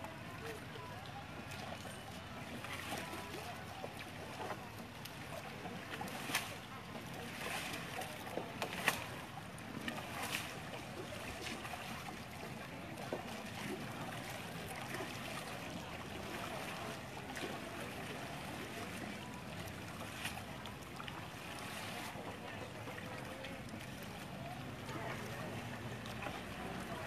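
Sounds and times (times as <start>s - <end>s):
river water flowing: 0.0s - 27.0s
wind: 0.0s - 27.0s.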